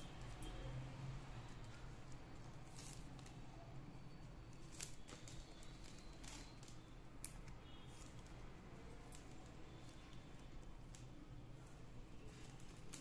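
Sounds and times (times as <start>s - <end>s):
plastic wire rustling: 1.4s - 13.0s.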